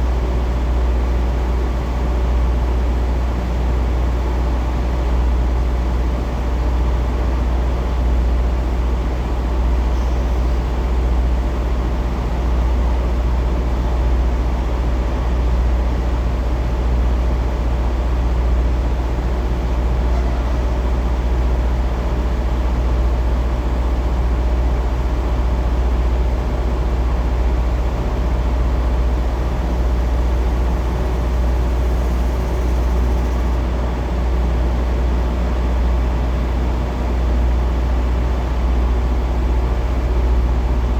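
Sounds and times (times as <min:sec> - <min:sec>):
diesel truck engine running: 0:00.2 - 0:40.9.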